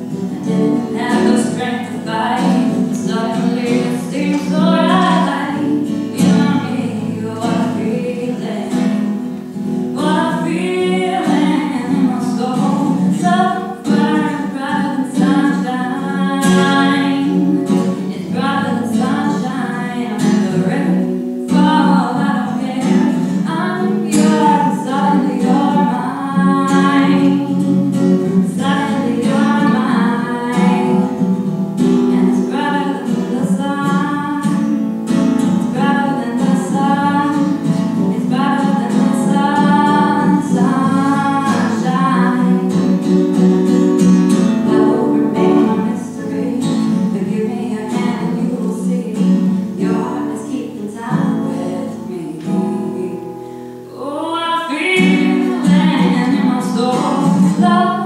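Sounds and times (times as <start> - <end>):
acoustic guitar: 0.0 - 58.0
woman singing: 0.0 - 58.0.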